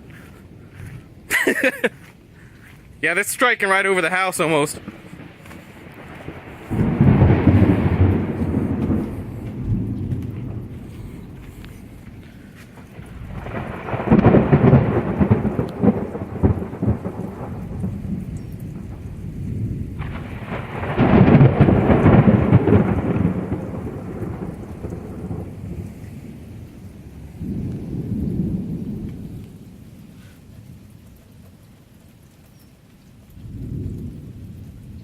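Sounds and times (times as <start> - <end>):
thunder rumbling: 0.0 - 31.2, 33.4 - 35.0
steady rain: 0.0 - 35.0.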